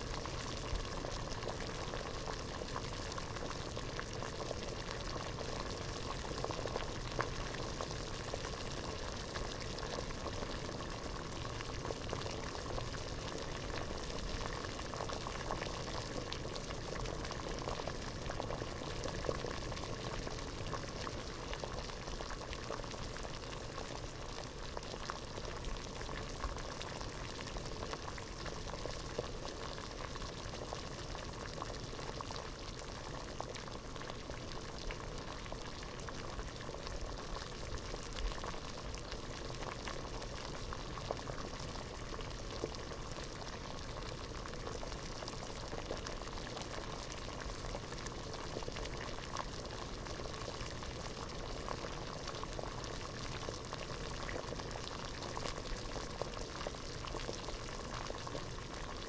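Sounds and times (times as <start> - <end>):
water boiling in a pot: 0.0 - 59.0.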